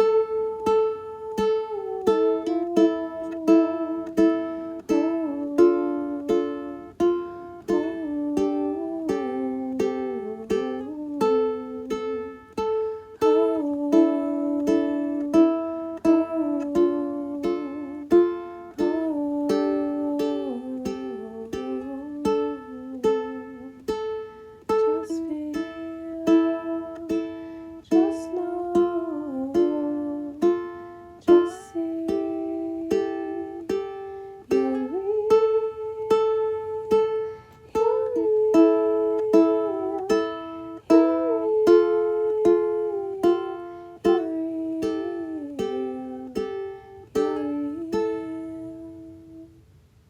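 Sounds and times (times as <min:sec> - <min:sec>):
strummed string instrument: 0:00.0 - 0:50.0.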